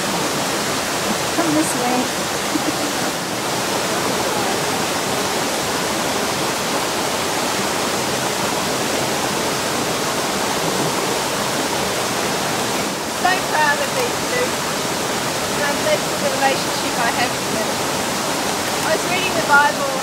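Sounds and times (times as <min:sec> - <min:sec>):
waterfall pouring into a pool: 0:00.0 - 0:20.0.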